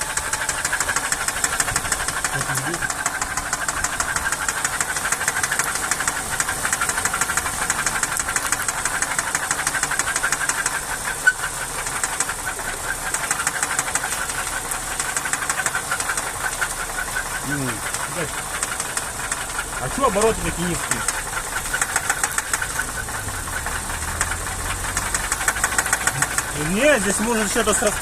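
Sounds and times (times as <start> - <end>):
car engine idling: 0.0 - 28.0
rapid ticking knock: 0.0 - 28.0.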